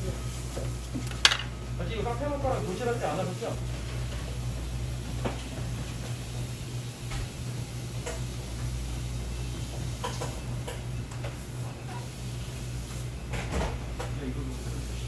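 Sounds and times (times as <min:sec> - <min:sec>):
steady low machine hum: 0:00.0 - 0:15.0.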